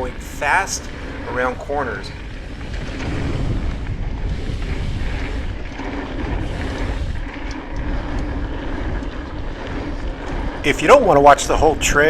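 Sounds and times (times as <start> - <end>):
bike tyres rolling over dirt: 0.0 - 12.0
wind rushing over microphone: 0.0 - 12.0.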